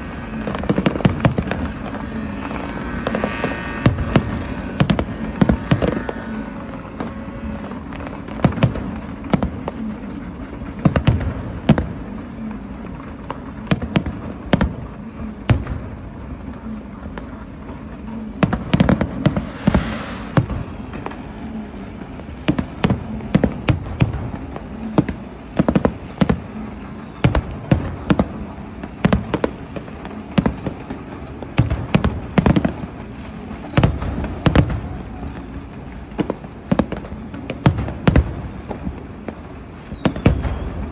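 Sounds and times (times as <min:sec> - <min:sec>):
fireworks bangs: 0:00.0 - 0:40.9
steady background din: 0:00.0 - 0:40.9.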